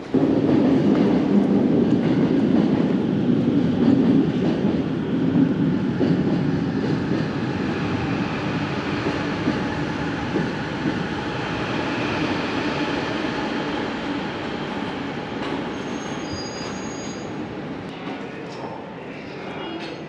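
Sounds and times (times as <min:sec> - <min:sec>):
train rumbling past: 0:00.0 - 0:17.9.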